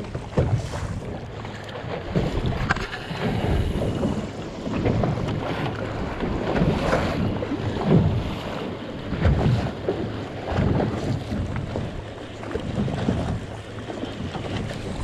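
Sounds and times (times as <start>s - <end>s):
water splashing against boat hull: 0.0s - 15.0s
wind buffeting microphone: 0.0s - 15.0s.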